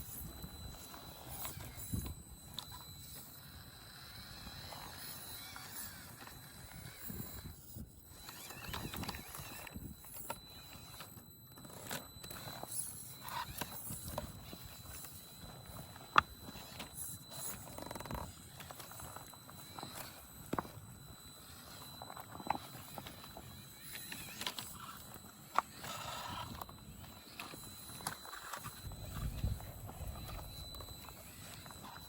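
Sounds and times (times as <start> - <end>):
rc car tyres clattering: 0.0 - 32.0.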